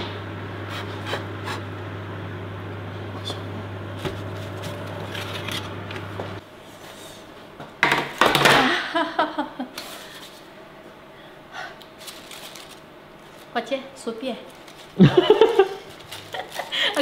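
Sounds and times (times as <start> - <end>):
oven fan humming: 0.0 - 7.8, 8.6 - 17.0.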